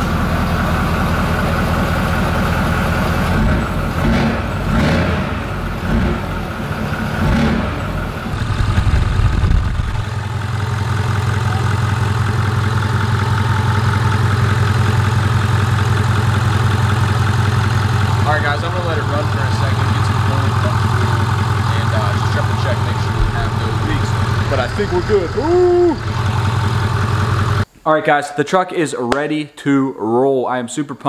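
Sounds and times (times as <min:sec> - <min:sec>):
diesel engine revving and idling: 0:00.0 - 0:27.7.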